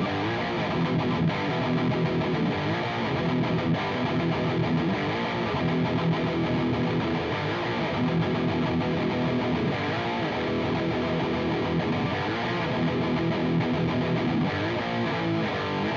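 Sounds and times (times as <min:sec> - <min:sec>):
distorted electric guitar riffs: 0:00.0 - 0:15.9.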